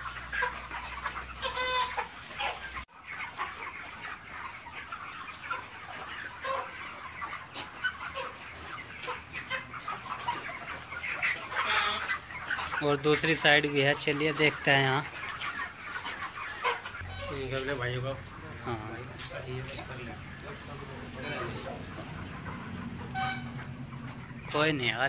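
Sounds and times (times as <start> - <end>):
chicken squawk: 0.0 - 25.0
chickens clucking and calling: 0.0 - 25.0.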